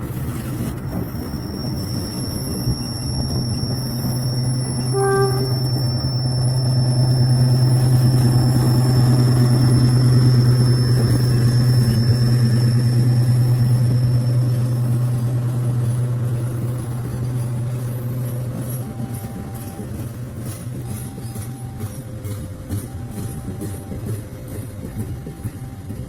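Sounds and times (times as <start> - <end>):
locomotive engine droning: 0.0 - 26.0.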